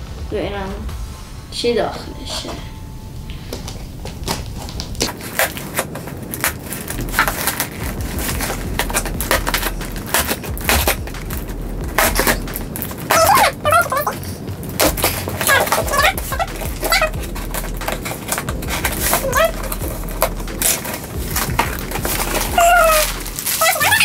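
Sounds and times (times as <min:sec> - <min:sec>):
scissors cutting cardboard and tape: 0:04.2 - 0:24.0.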